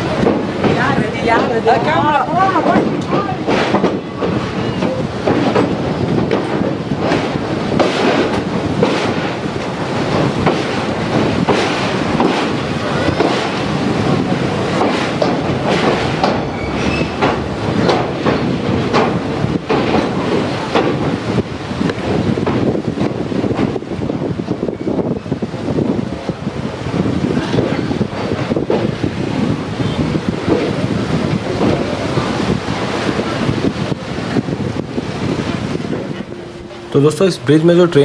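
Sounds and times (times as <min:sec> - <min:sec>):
clanks from steel bridge: 0:00.0 - 0:38.0
train wheels clattering on track: 0:00.0 - 0:38.0.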